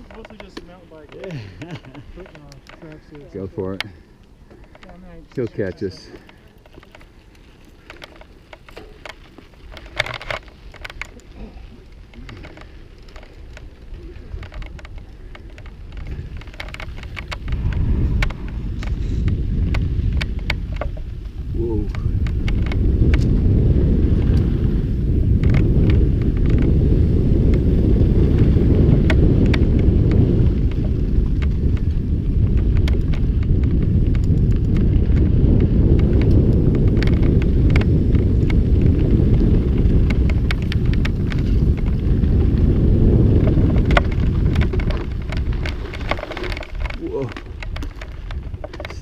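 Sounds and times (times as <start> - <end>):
bike rattling on rough trail: 0.0 - 49.0
wind buffeting microphone: 0.0 - 49.0.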